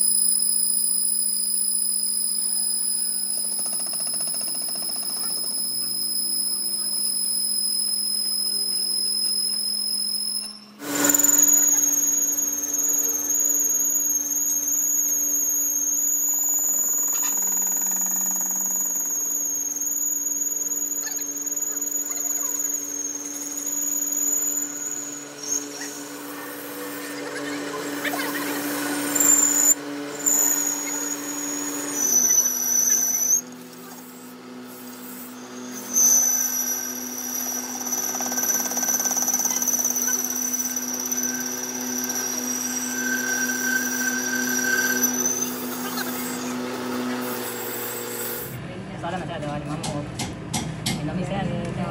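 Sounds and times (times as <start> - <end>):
lathe cutting tool squeal: 0.0 - 48.6
lathe hum: 0.0 - 48.6.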